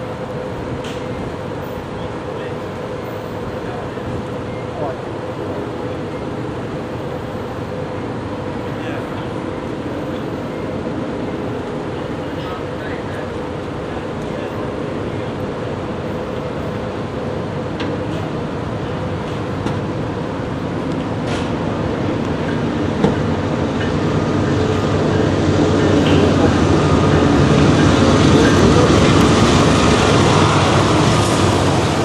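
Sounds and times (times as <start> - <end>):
diesel locomotive rumble: 0.0 - 32.0.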